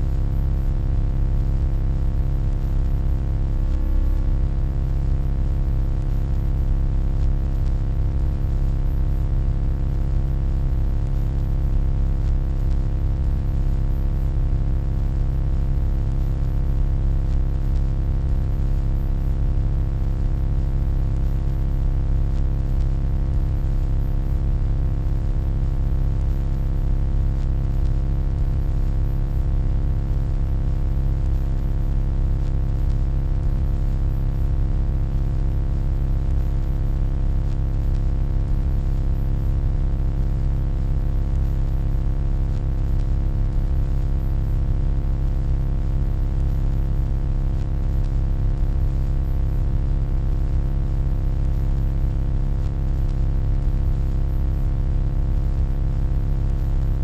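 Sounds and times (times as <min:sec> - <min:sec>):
electronic hum with tones: 0:00.0 - 0:57.0.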